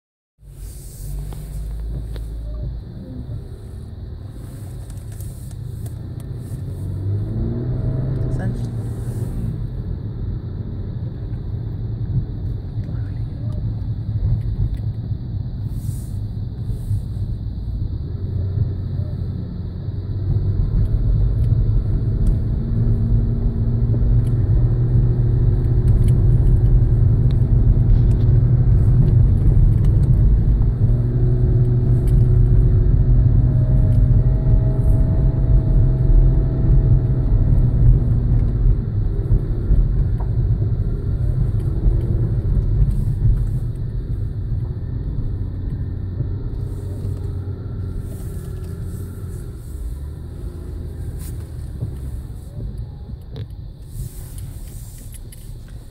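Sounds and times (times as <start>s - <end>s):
car engine under load: 0.4s - 55.9s
road rumble: 0.4s - 55.9s.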